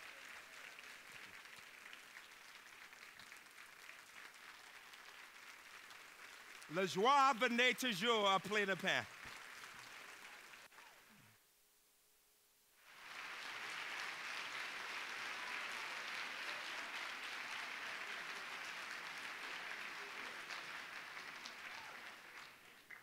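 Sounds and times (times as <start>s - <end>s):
audience applauding: 0.0s - 11.0s, 12.8s - 23.0s.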